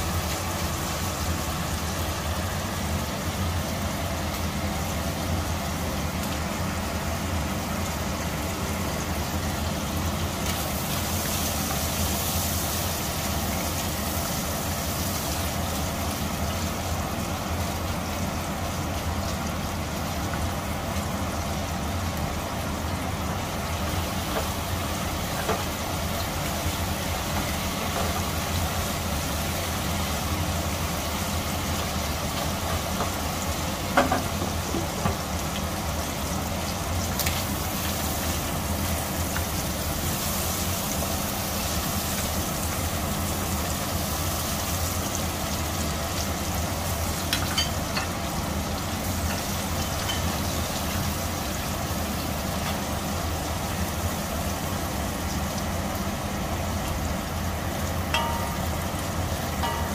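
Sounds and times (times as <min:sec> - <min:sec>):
prawns sizzling in hot oil: 0:00.0 - 0:59.9.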